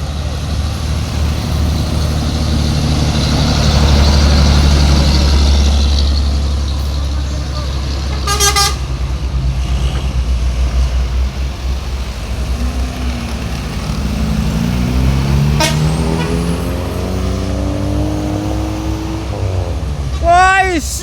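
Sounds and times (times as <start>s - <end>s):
truck engine accelerating: 0.0s - 21.0s.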